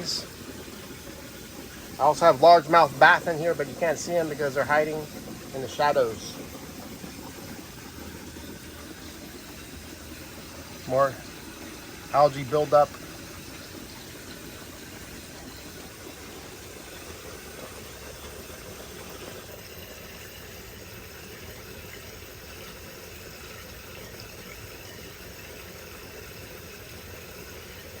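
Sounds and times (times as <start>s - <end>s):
pumps and water inflow rushing: 0.0s - 28.0s.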